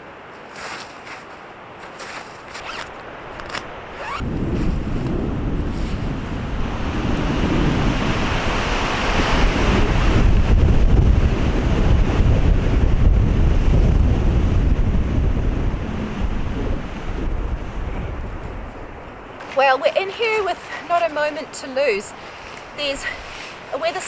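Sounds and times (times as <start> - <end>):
gusty wind buffeting microphone: 1.7 - 24.0.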